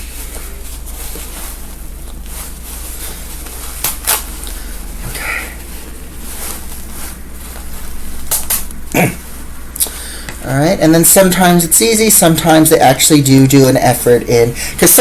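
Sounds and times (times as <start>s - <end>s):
fabric rustling: 0.0s - 15.0s
steady low hum: 0.0s - 15.0s.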